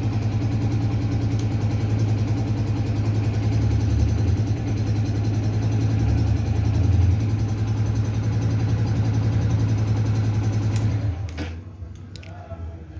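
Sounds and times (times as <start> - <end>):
engine idling: 0.0 - 11.4.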